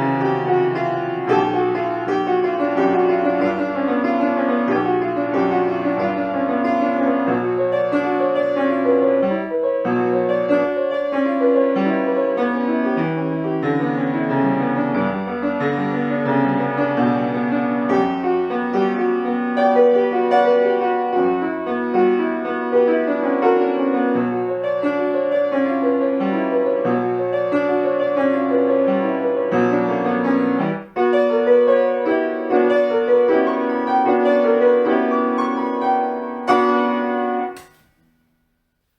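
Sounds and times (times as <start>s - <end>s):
solo piano piece: 0.0s - 37.8s.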